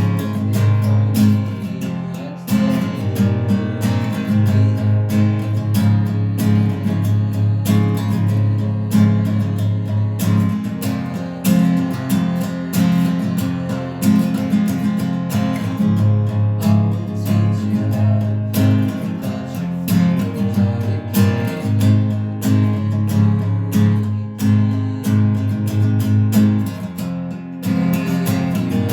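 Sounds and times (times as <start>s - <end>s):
acoustic guitar strumming chords: 0.0s - 28.9s.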